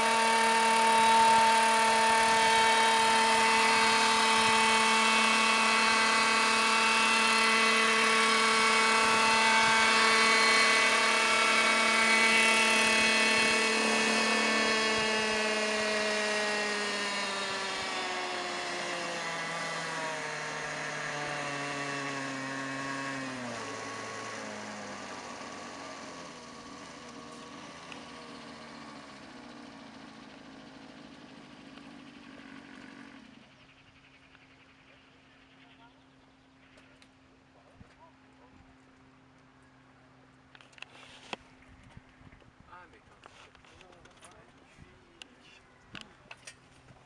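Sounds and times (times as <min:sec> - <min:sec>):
model helicopter engine and rotor: 0:00.0 - 0:47.0.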